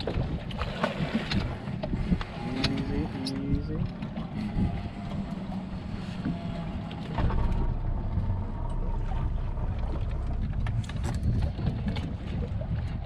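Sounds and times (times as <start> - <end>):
boat engine rumble: 0.0 - 13.0
wind on microphone: 0.0 - 13.0.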